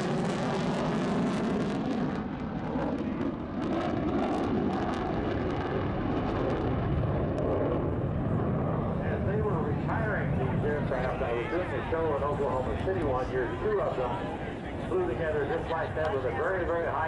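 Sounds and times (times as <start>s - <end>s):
jet bomber flying past: 0.0s - 17.0s.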